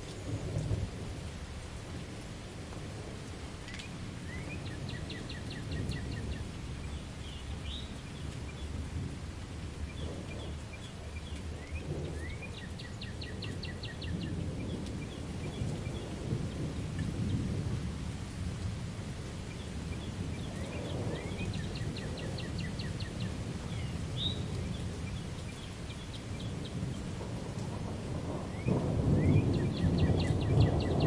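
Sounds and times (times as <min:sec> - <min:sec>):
distant thunder rumbling: 0:00.0 - 0:31.0
steady rain: 0:00.0 - 0:31.0.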